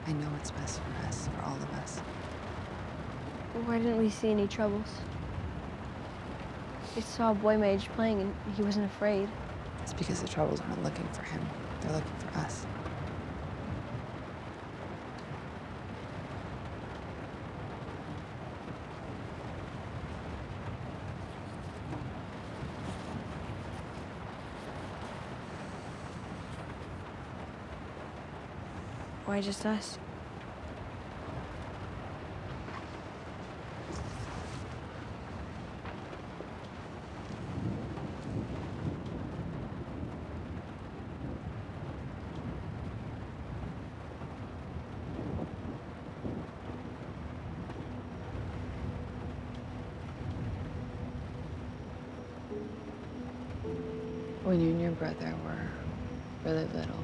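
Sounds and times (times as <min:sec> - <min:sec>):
low rumbling noise: 0:00.0 - 0:57.0.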